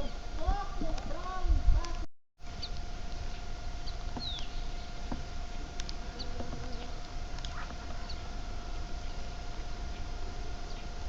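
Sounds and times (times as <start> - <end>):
birds chirping: 0.0 - 11.0
steady hum: 0.0 - 11.0.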